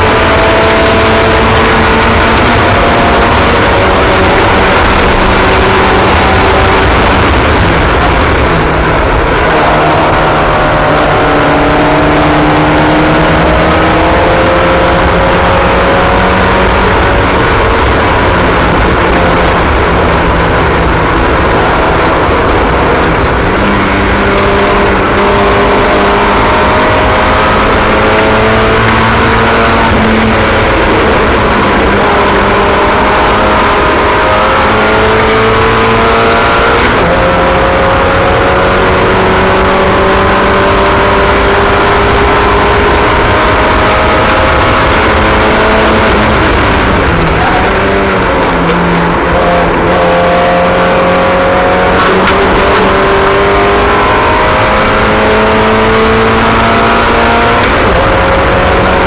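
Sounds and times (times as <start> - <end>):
race car engines accelerating: 0.0 - 59.0.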